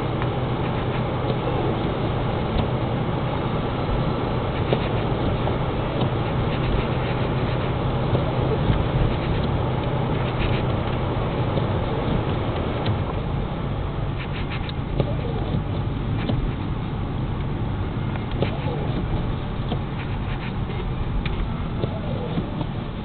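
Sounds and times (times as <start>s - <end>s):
car engine hum: 0.0s - 23.0s.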